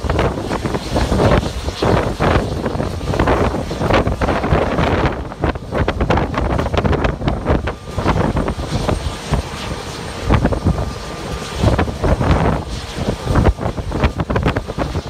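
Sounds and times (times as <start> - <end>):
faint high whine: 0.0 - 15.0
jet engines humming: 0.0 - 15.0
wind buffeting microphone: 0.0 - 15.0.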